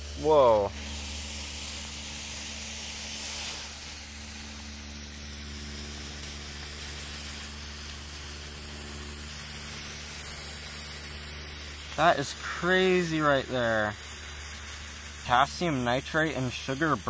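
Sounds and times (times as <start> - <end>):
firework burning with a hiss: 0.0 - 17.0.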